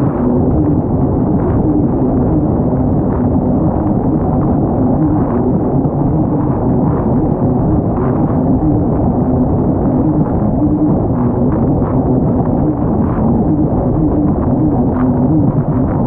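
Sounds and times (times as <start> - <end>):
rushing wind and water: 0.0 - 16.0.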